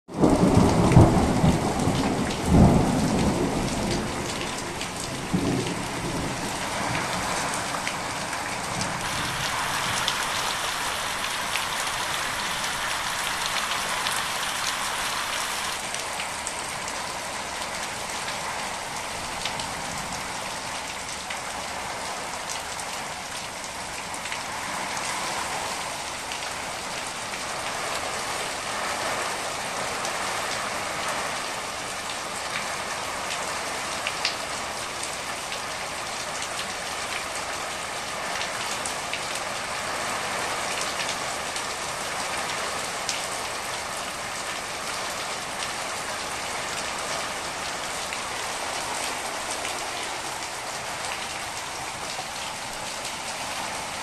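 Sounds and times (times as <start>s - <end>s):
heavy rain on tarpaulin: 0.0s - 54.0s.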